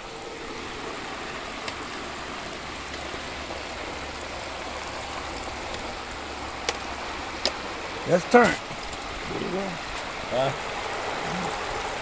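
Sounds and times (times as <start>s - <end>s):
oil sizzling and bubbling: 0.0s - 12.0s.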